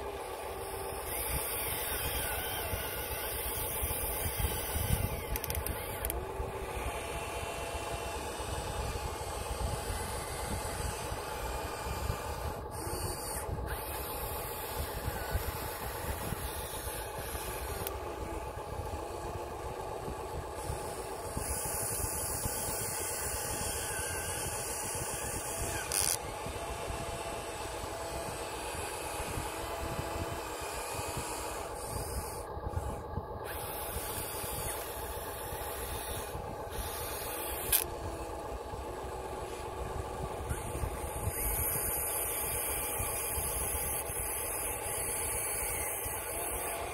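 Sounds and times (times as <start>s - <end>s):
toy excavator motors humming: 0.0s - 46.9s.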